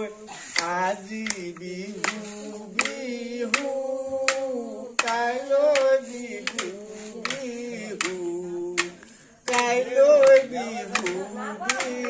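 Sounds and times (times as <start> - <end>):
voices singing held wavering notes: 0.0 - 12.0
sharp hand claps: 0.5 - 12.0.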